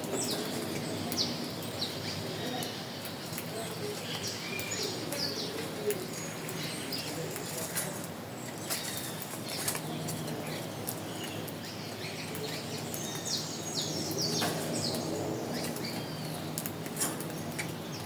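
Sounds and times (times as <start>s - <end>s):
wild birds calling: 0.0s - 18.0s.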